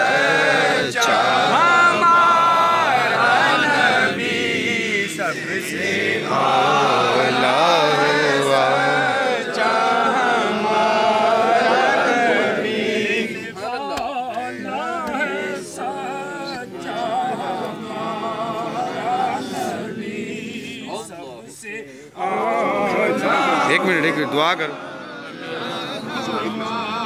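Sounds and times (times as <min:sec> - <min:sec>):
men chanting together: 0:00.0 - 0:27.0.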